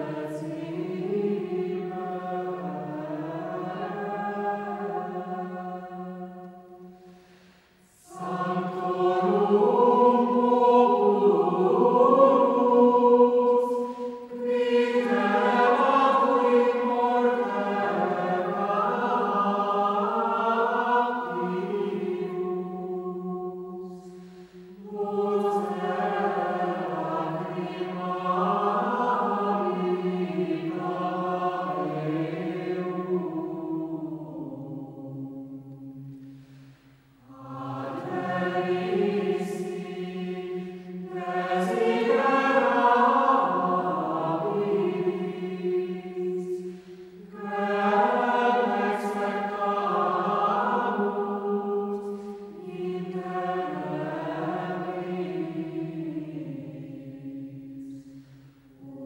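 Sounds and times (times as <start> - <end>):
choir singing a slow chant: 0.0 - 59.0.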